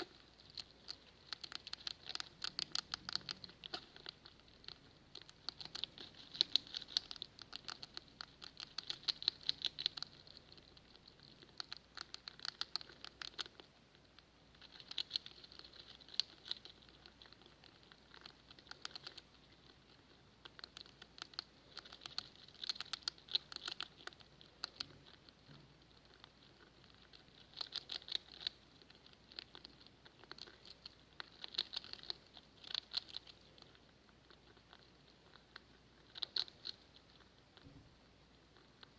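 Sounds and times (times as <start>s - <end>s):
rats making crackling clicks: 0.0s - 37.7s.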